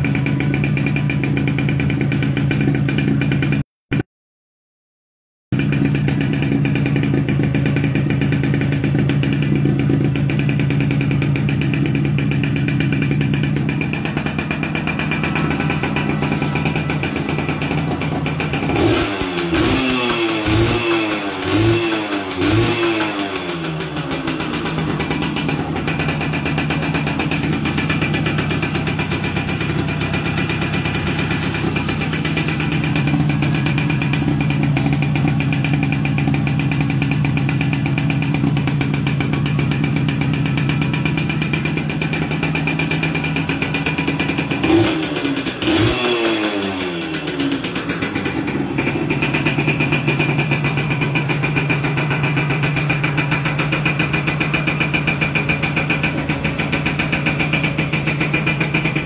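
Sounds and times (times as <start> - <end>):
motorcycle engine idling and revving: 0.0 - 4.0, 5.5 - 59.0.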